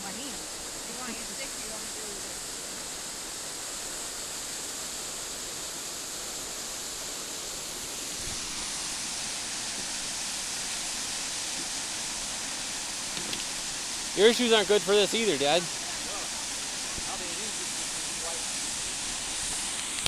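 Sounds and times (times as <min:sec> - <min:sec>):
waterfall and creek rushing: 0:00.0 - 0:20.0.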